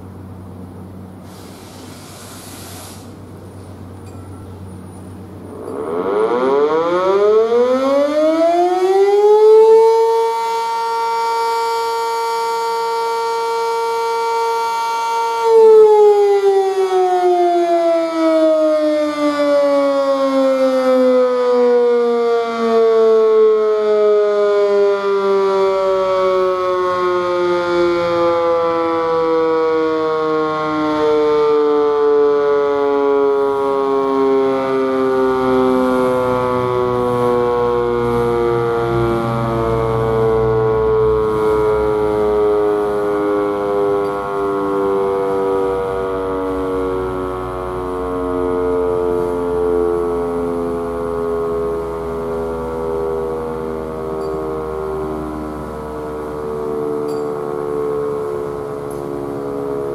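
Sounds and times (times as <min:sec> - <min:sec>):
mechanical siren wailing: 0:05.4 - 0:59.9.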